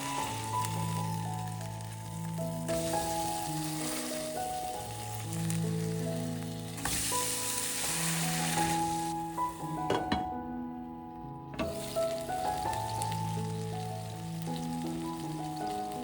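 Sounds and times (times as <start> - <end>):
food sizzling in a pan: 0.0 - 10.4, 11.6 - 16.0
slow background music: 0.0 - 16.0.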